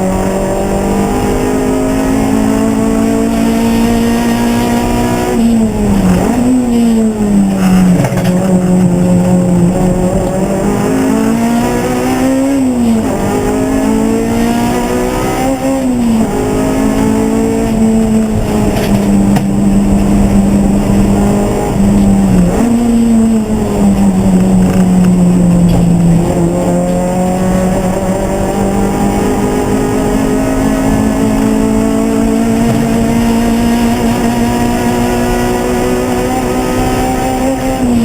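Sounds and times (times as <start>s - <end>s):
racing car engine running hard: 0.0s - 38.0s.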